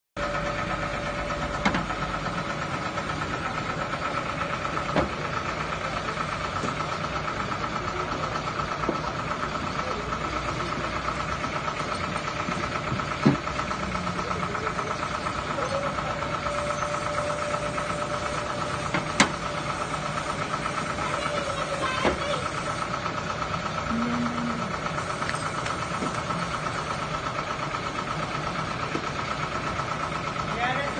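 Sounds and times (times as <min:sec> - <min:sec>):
truck engine idling with ticking: 0:00.2 - 0:30.9.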